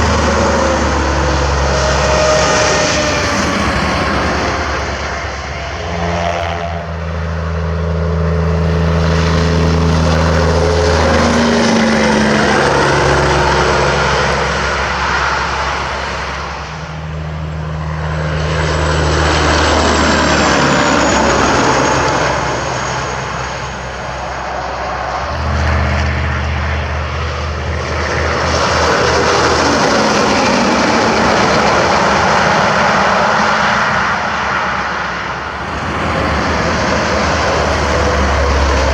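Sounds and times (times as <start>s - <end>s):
trucks passing on highway: 0.0s - 38.9s.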